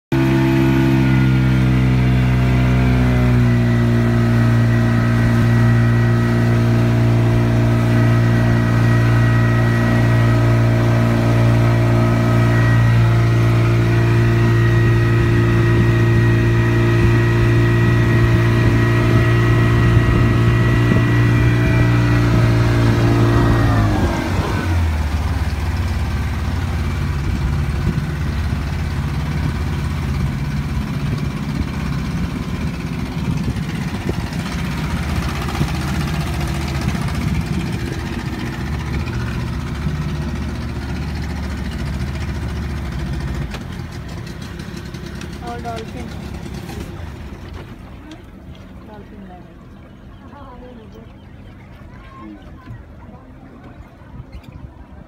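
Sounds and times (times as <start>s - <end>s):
boat engine droning: 0.1s - 55.0s.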